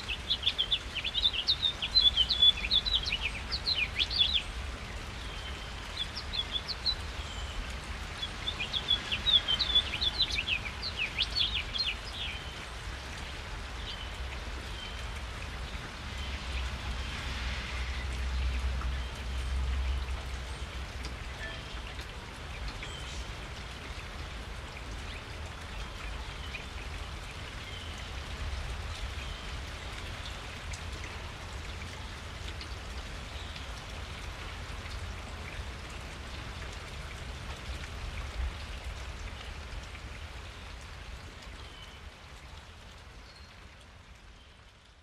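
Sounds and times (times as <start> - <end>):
rain pattering: 0.0 - 45.0.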